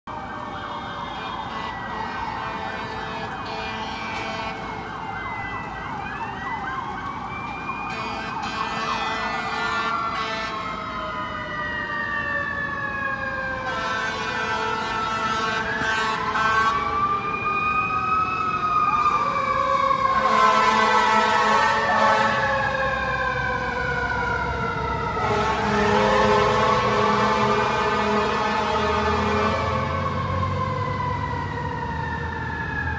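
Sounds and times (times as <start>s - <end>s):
emergency sirens wailing: 0.0s - 32.9s.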